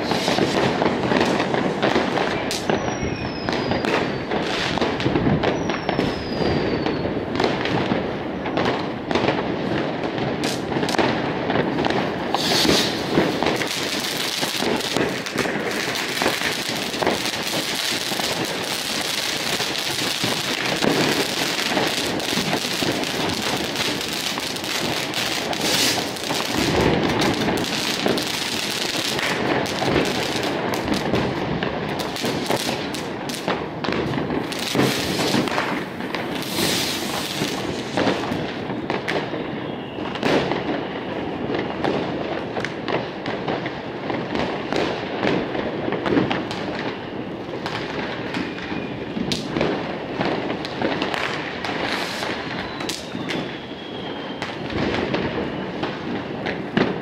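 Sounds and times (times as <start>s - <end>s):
firecrackers crackling: 0.0s - 57.0s
fireworks bangs: 0.0s - 57.0s.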